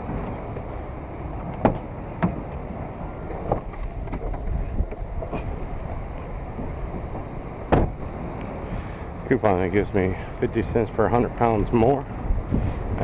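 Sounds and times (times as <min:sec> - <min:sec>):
steady low rumble: 0:00.0 - 0:13.0
wind on microphone: 0:00.0 - 0:13.0.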